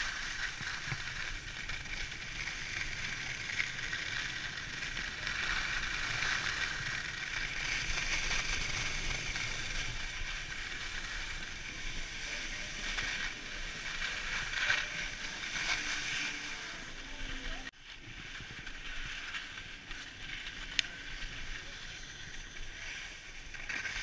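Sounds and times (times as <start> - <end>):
skis scraping over snow: 0.0 - 24.0.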